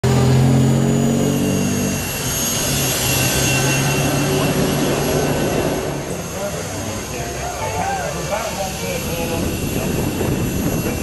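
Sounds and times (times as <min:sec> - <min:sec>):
turbine engine high whine: 0:00.0 - 0:11.0.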